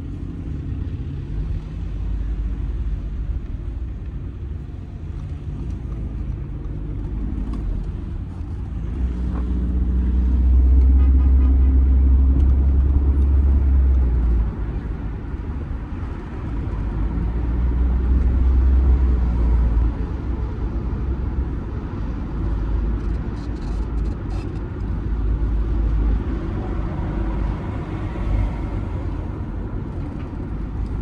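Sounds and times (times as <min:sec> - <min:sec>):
diesel car engine drone: 0:00.0 - 0:31.0
road noise: 0:00.0 - 0:31.0.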